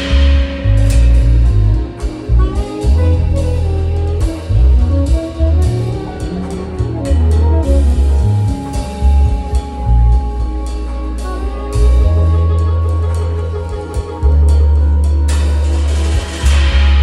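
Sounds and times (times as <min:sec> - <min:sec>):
melodic line of notes: 0:00.0 - 0:16.3
deep bass line: 0:00.0 - 0:17.0
drum kit and cymbal strikes: 0:00.0 - 0:17.0.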